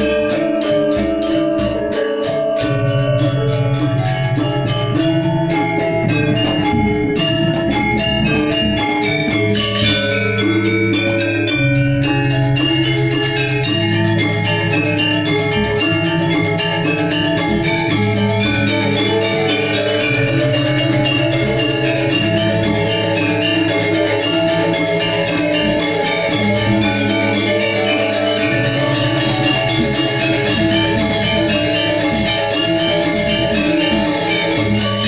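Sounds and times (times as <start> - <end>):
gamelan playing: 0.0 - 35.0.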